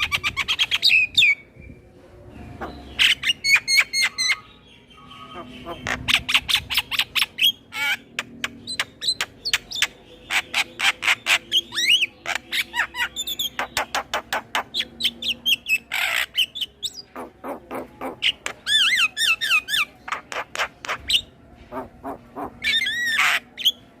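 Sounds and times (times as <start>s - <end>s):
myna bird singing: 0.0s - 24.0s.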